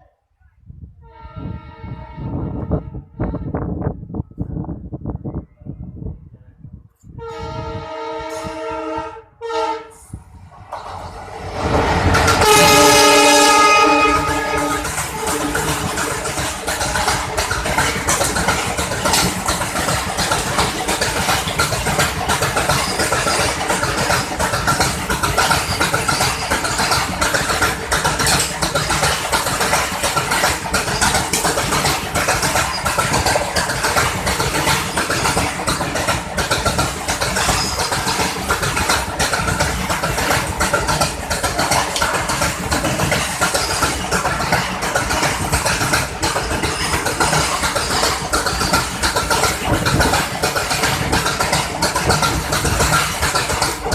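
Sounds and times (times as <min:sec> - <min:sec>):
train noise: 0:00.0 - 0:53.9
diesel locomotive running: 0:07.1 - 0:53.9.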